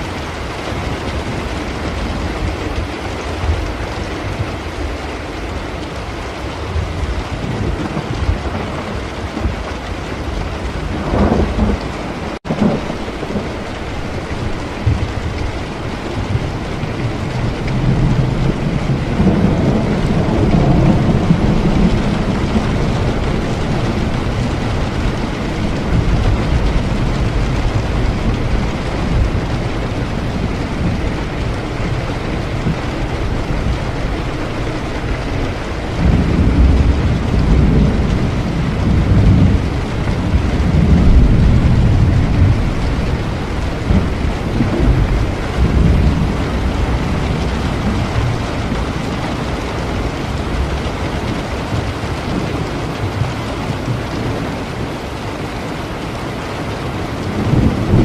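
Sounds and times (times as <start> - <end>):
heavy rain: 0.0 - 58.0
rolling thunder: 6.6 - 54.7, 57.1 - 58.0.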